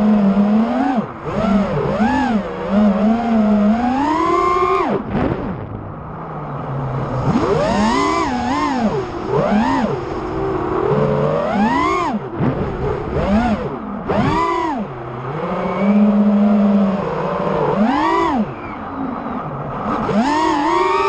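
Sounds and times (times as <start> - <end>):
quadcopter motors whining: 0.0 - 5.7, 6.5 - 21.0.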